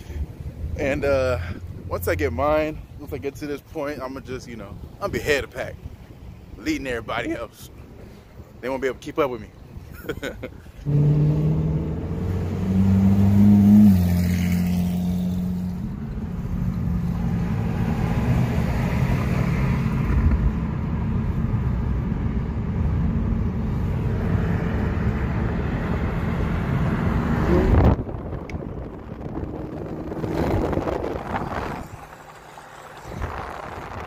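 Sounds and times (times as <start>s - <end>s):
car engine rumble: 0.0s - 34.0s
tyre and road noise: 0.0s - 34.0s.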